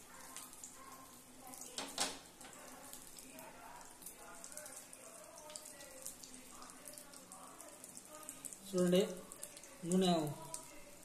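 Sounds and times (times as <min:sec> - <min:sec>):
omelette sizzling in oil: 0:00.0 - 0:11.0.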